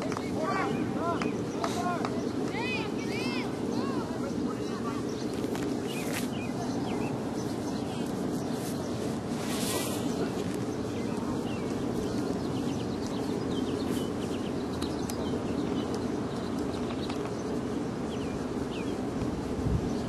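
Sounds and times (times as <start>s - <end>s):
birds chirping faintly: 0.0s - 20.0s
outdoor background noise: 0.0s - 20.0s.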